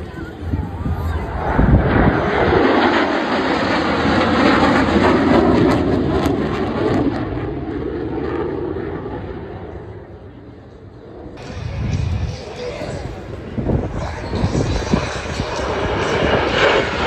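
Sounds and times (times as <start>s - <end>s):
airplane flying past: 0.0s - 17.0s.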